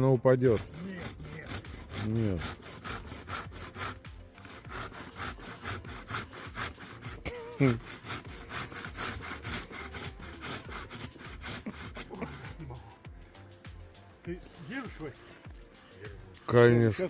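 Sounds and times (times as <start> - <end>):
hand saw cutting wood: 0.0 - 13.1, 14.4 - 17.0.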